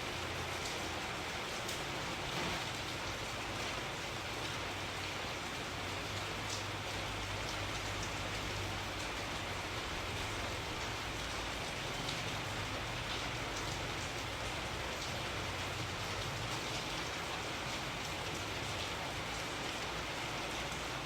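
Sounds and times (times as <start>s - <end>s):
steady rain falling: 0.0s - 21.0s
raindrops ticking: 0.2s - 20.9s.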